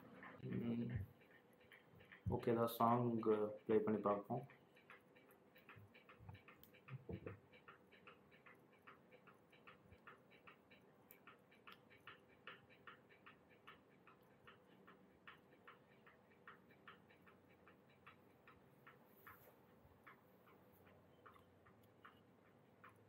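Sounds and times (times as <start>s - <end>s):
faint even ticking: 0.0s - 23.0s.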